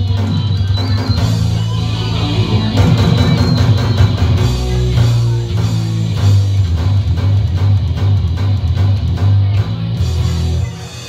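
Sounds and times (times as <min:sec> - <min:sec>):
heavy low bass notes: 0:00.0 - 0:10.8
drum kit beat: 0:00.0 - 0:11.0
electric guitar: 0:00.0 - 0:11.0.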